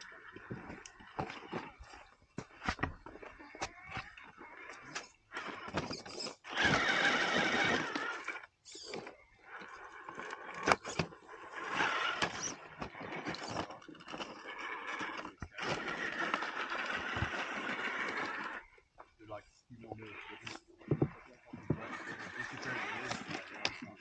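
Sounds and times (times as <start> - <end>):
electric motor and gears whining: 0.0 - 24.0.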